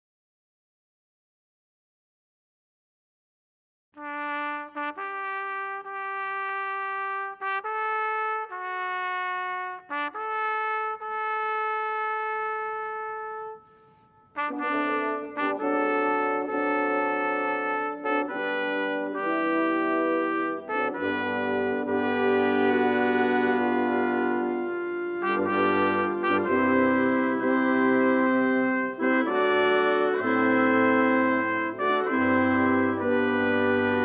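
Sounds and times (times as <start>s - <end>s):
brass ensemble playing: 4.0s - 13.6s, 14.4s - 34.0s
solo trumpet slow melody: 4.0s - 34.0s.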